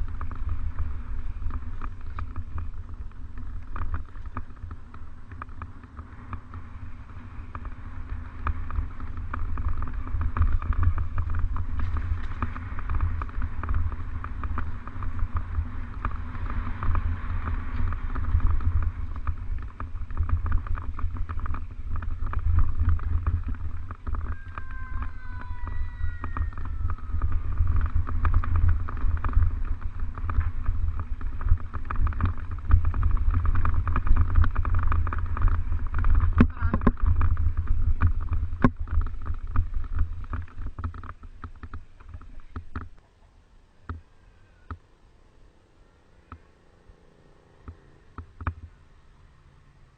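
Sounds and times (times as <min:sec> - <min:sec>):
mountain bike rattling on trail: 0:00.0 - 0:49.9
wind buffeting microphone: 0:00.0 - 0:49.9.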